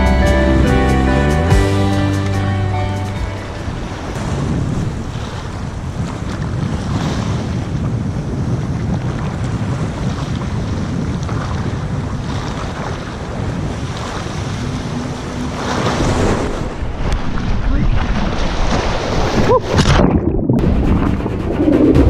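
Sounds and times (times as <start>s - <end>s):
sea waves splashing: 0.0s - 22.0s
wind buffeting microphone: 3.7s - 22.0s.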